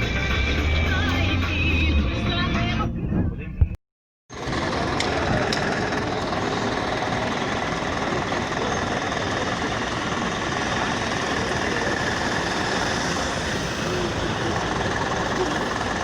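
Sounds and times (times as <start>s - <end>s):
engine running with knocking clatter: 0.0s - 2.8s, 4.3s - 16.0s.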